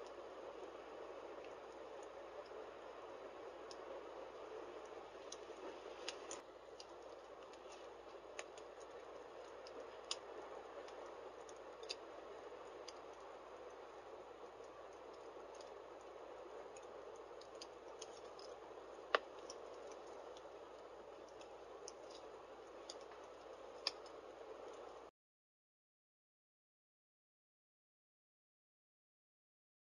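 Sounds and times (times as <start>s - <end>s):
fire crackling: 0.0s - 25.1s
fire rushing: 0.0s - 25.1s.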